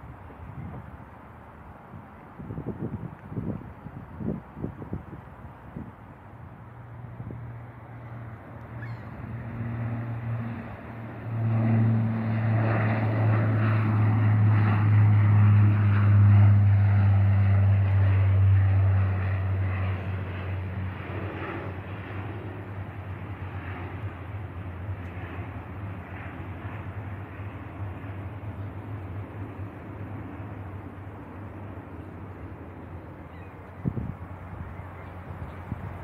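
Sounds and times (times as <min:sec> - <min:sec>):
turboprop plane propeller drone: 0:00.0 - 0:36.0.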